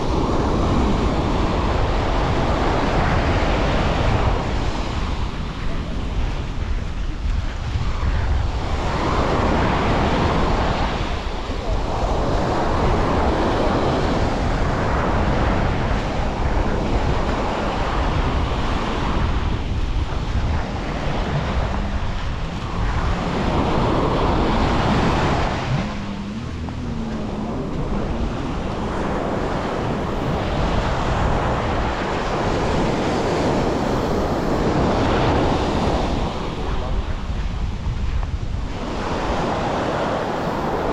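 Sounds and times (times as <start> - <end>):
surf breaking on beach: 0.0 - 40.9
wind buffeting microphone: 0.0 - 40.9.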